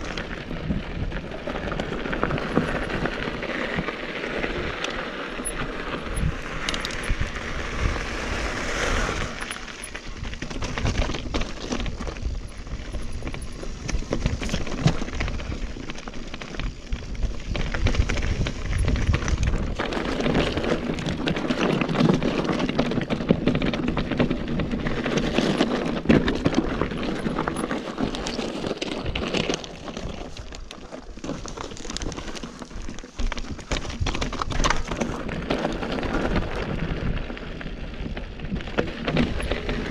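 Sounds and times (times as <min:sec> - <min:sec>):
bike rattling and clicking: 0:00.0 - 0:39.9
tyres crunching over gravel: 0:00.0 - 0:39.9.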